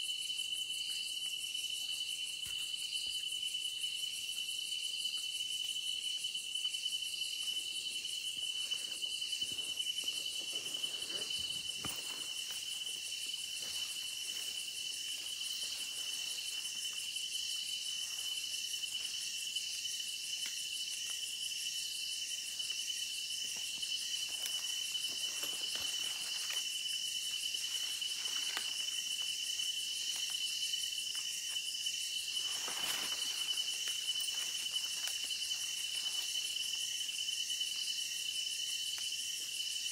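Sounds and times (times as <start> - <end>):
insects trilling: 0.0 - 39.9
pulsing insect calls: 0.0 - 39.9.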